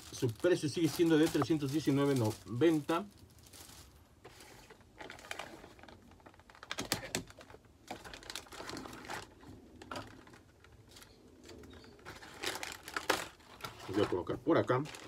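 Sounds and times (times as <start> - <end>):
plastic packaging crinkling: 0.0 - 11.1, 11.7 - 15.0.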